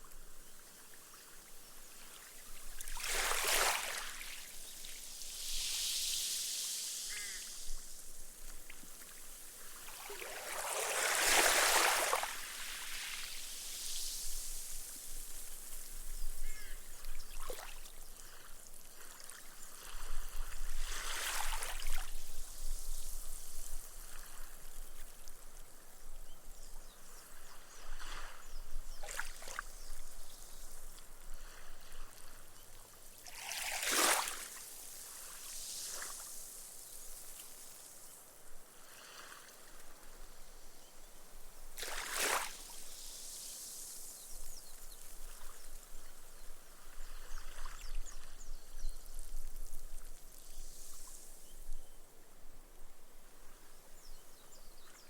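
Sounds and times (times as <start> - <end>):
gentle waves washing on sand: 0.0 - 55.0.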